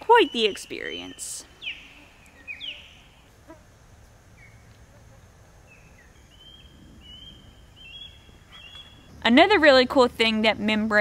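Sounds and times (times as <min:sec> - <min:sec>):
faint birdsong: 0:00.0 - 0:11.0
low background hum: 0:00.0 - 0:11.0.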